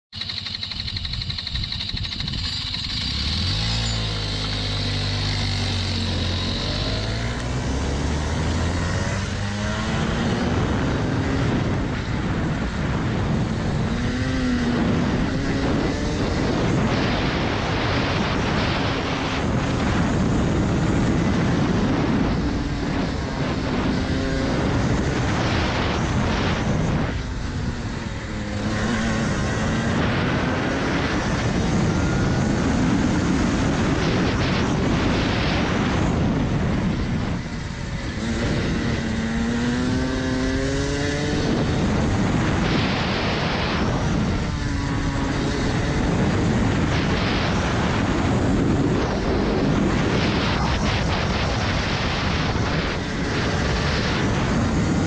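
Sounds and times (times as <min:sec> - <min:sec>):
kart engine revving: 0:00.1 - 0:55.0.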